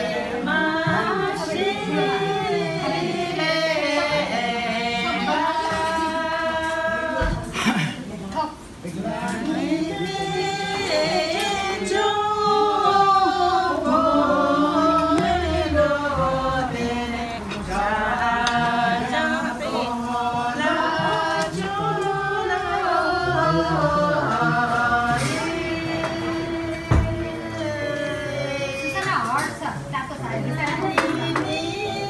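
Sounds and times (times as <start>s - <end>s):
voices singing without instruments: 0.0s - 32.0s.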